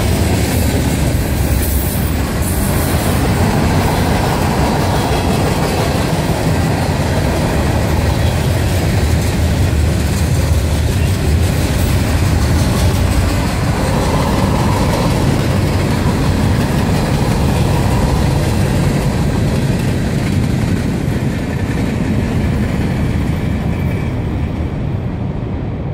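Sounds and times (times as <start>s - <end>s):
wheels clacking over rail joints: 0.0s - 24.2s
freight train rolling past: 0.0s - 25.9s.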